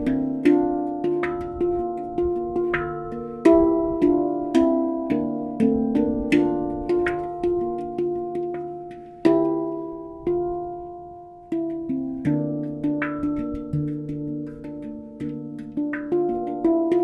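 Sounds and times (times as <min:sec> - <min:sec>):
handpan notes ringing: 0:00.0 - 0:17.0.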